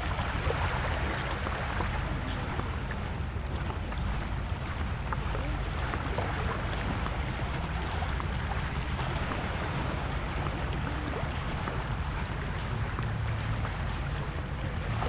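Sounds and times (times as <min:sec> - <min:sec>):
sea waves on a beach: 0:00.0 - 0:15.0.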